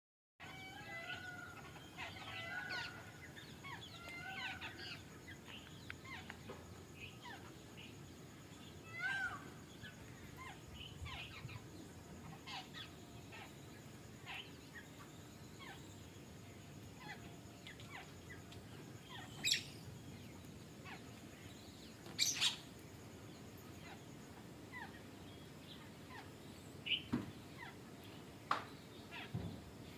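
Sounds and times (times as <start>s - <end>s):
birds chirping: 0.4s - 29.9s.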